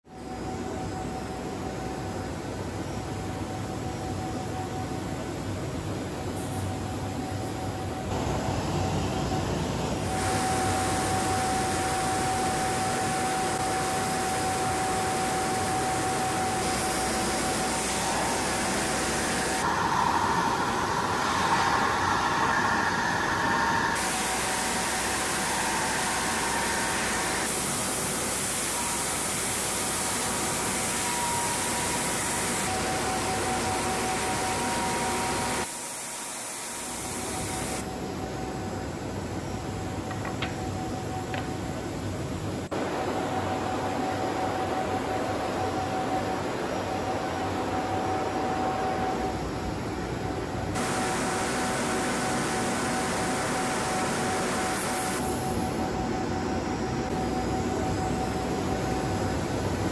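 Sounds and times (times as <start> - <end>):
sanding machine hiss and whine: 7.2 - 39.6, 42.7 - 59.9.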